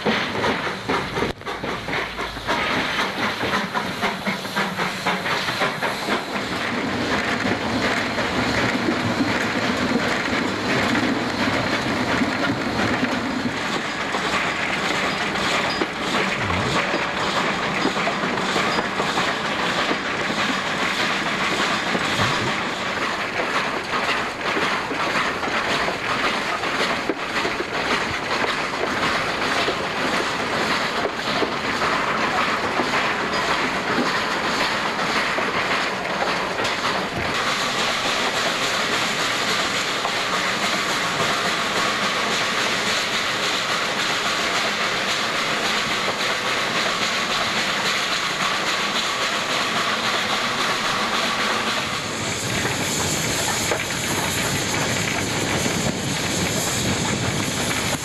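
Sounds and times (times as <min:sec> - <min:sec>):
steam hiss: 0:00.0 - 0:58.0
steam locomotive running: 0:00.0 - 0:58.0.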